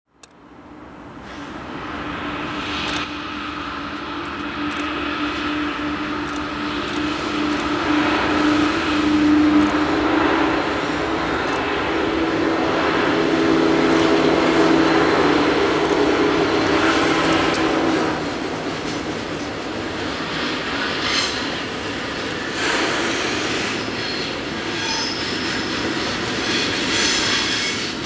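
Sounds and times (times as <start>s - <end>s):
locomotive engines droning: 0.1s - 28.0s
train wheels clicking on rails: 0.2s - 28.0s.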